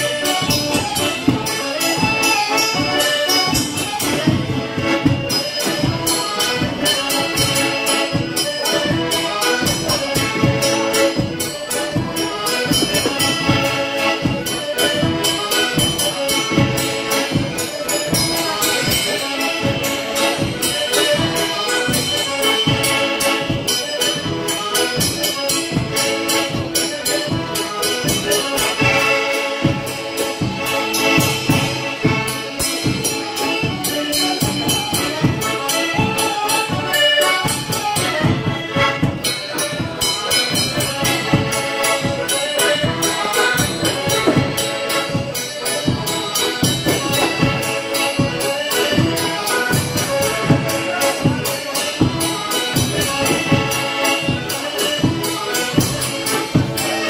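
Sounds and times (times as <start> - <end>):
accordion: 0.0 - 57.0
fiddle: 0.0 - 57.0.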